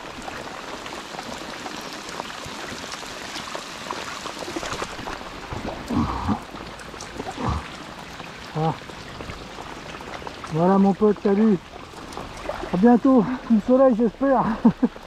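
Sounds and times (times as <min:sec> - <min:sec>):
rain pattering on water and concrete: 0:00.0 - 0:15.0.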